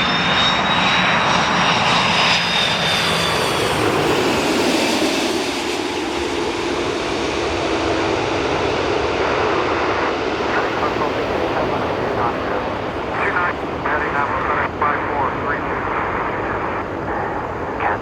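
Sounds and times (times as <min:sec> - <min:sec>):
airliner engines rushing: 0:00.0 - 0:18.0
high engine whine: 0:00.0 - 0:18.0.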